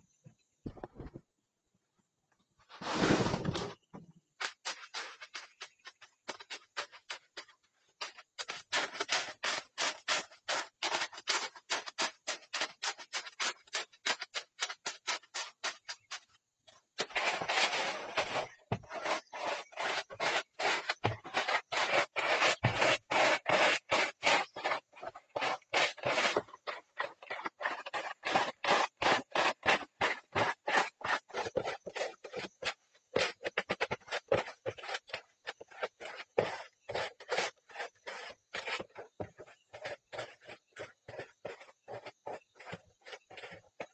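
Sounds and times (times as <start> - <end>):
screed scraping wet concrete: 4.4 - 16.2, 17.0 - 43.9.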